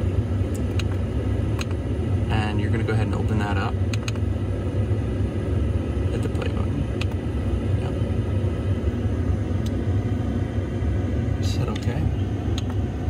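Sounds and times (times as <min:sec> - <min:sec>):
low rumble inside truck cab: 0:00.0 - 0:13.0.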